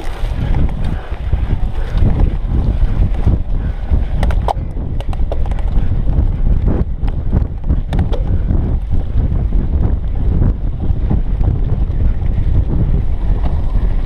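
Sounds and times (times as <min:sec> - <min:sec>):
bike rattling clicks: 0:00.0 - 0:14.0
bike tyres rumbling on track: 0:00.0 - 0:14.0
wind buffeting microphone: 0:00.0 - 0:14.0.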